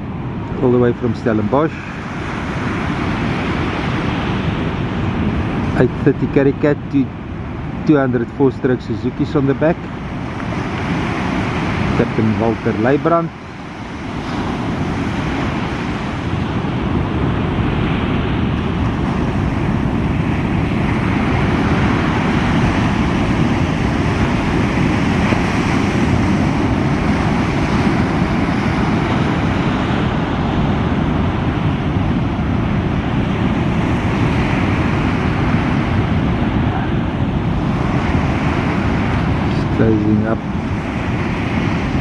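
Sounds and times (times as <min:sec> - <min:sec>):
breaking surf: 0:00.0 - 0:42.0
wind rumbling on microphone: 0:00.0 - 0:42.0.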